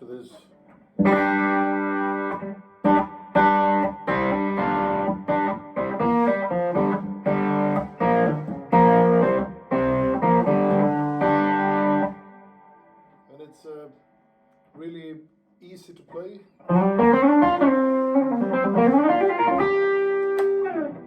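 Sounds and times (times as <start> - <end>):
electric guitar chords: 0.7 - 13.2, 16.6 - 21.0.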